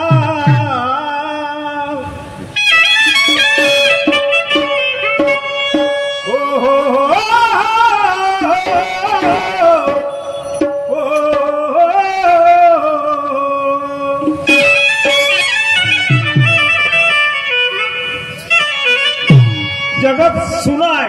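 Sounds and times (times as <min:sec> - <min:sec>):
hand drum strokes: 0:00.0 - 0:00.9, 0:02.2 - 0:11.9, 0:14.2 - 0:20.6.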